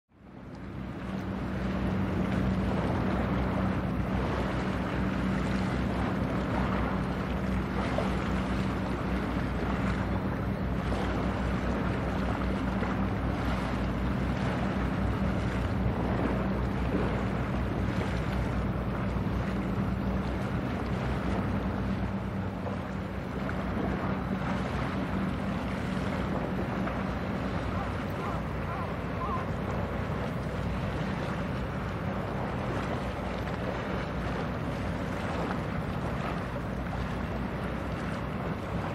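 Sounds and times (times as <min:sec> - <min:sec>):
water noise: 0:00.1 - 0:38.9
wind: 0:00.1 - 0:38.9
ship diesel engine droning: 0:00.2 - 0:38.9.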